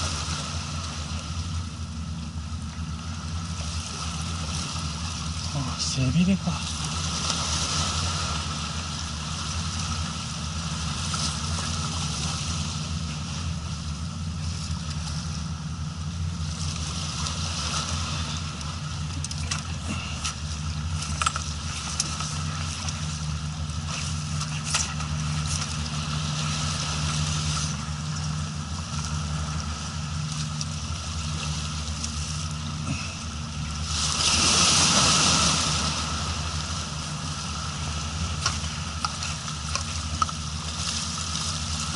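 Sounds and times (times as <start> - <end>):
boat engine idling: 0.0 - 41.9
wind and water hiss: 0.0 - 41.9.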